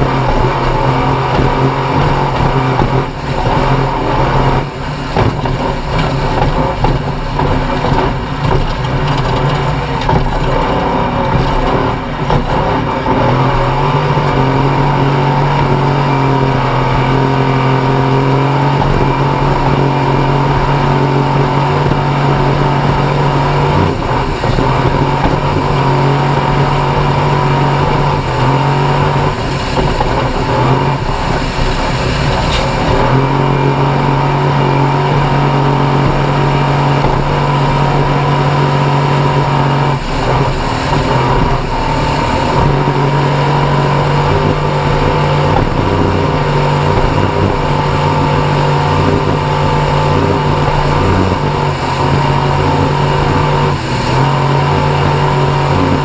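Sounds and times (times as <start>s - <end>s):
race vehicle engine revving: 0.0s - 56.0s.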